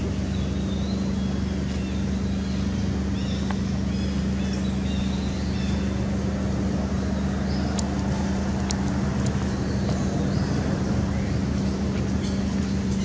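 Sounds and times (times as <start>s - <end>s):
low motor-like hum: 0.0s - 13.0s.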